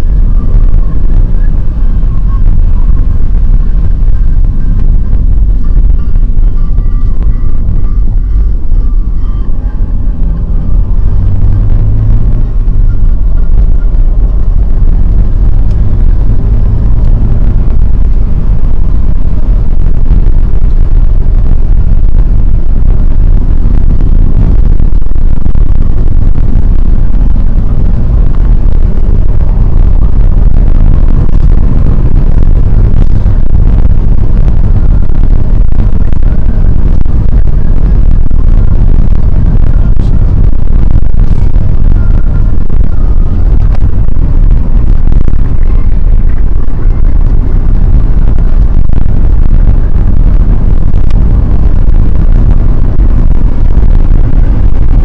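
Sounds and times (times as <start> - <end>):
car engine rumble: 0.0 - 55.0
tyres on wet road: 0.0 - 55.0.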